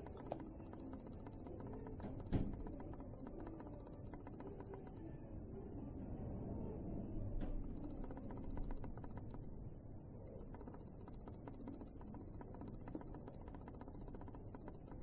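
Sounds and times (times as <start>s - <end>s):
faint rapid clicking: 0.0s - 5.3s, 7.3s - 15.0s.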